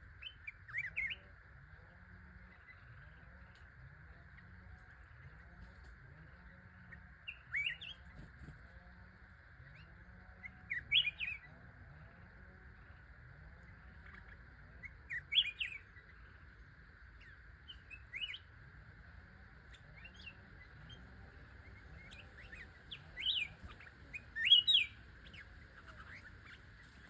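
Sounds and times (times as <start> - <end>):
faint high drone: 0.0 - 27.0
songbird chirping: 0.0 - 27.0.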